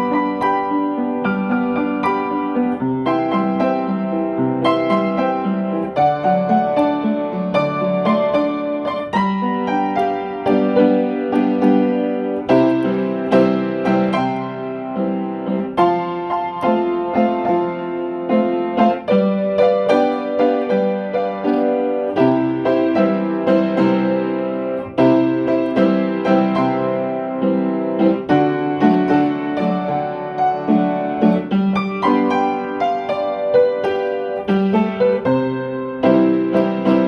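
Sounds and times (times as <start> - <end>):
solo piano music: 0.0 - 37.0.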